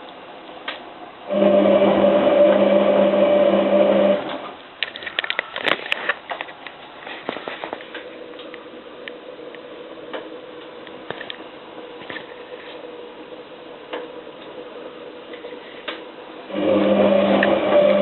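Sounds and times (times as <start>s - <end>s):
washing machine motor hum: 0.0s - 4.8s, 6.8s - 18.0s
faint steady hum: 0.0s - 18.0s.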